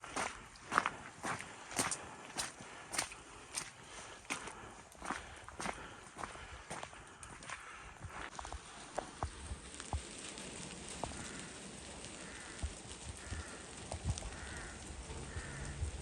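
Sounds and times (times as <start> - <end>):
footsteps on wet path: 0.0 - 14.7, 15.3 - 15.6
steady rain hiss: 0.0 - 16.0.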